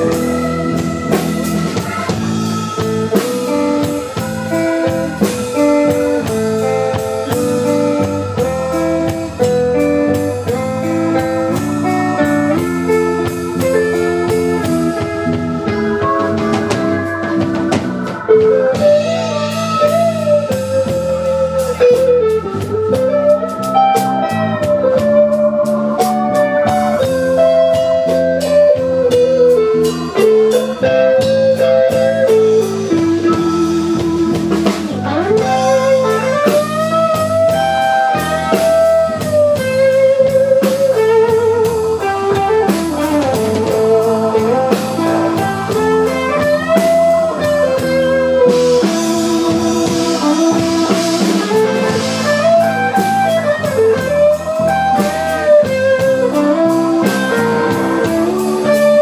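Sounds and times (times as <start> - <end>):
drum kit: 0.0 - 59.0
electric guitar solo: 0.0 - 59.0
keyboard: 0.0 - 59.0.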